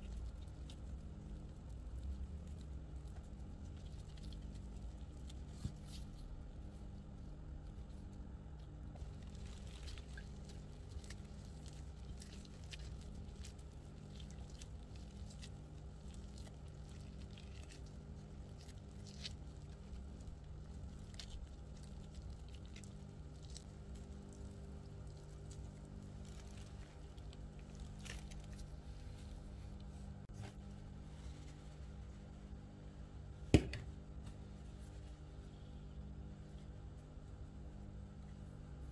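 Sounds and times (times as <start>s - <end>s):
crackles and rustles of plastic gloves: 0.0s - 38.9s
low steady hum: 0.0s - 38.9s.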